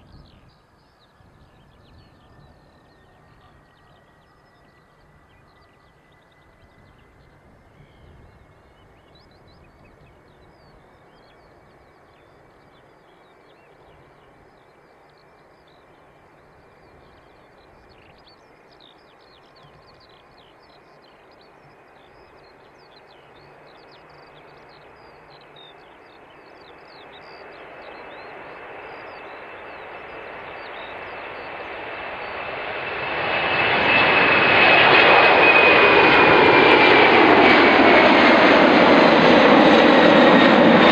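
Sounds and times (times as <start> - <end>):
jet airliner approaching: 0.0 - 40.9.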